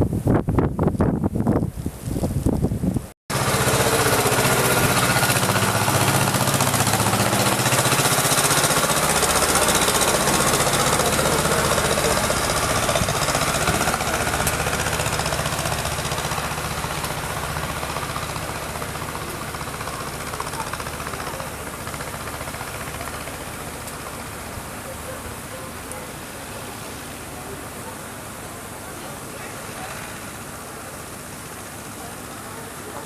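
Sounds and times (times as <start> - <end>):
engine running with rattling beat: 3.3 - 33.0.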